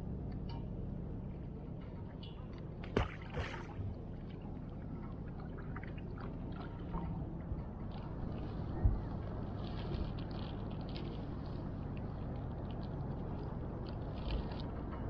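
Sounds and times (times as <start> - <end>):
low rumble of water and wind: 0.0 - 15.0.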